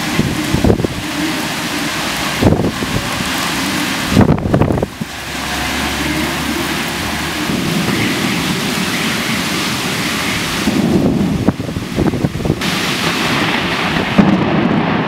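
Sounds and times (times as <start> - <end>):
heavy rain falling: 0.0 - 15.0
thunder rumble: 0.0 - 15.0.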